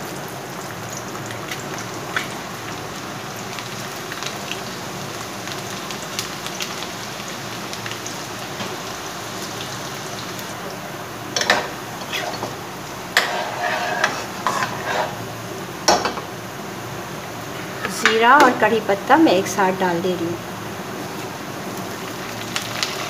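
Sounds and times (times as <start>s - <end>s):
garlic and chillies sizzling in oil: 0.0s - 23.0s.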